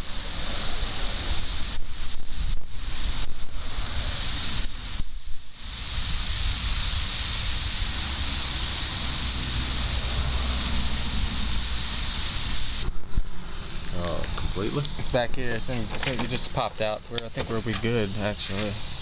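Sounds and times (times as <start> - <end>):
wind rumbling on microphone: 0.0 - 16.6.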